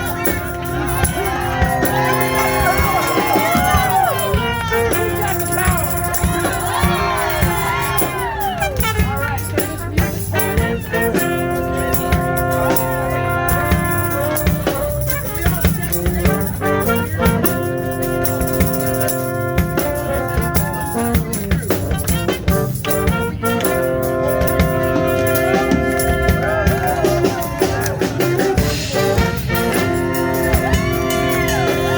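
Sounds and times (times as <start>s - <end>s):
drums: 0.0s - 31.9s
live band sustained chords: 0.0s - 31.9s.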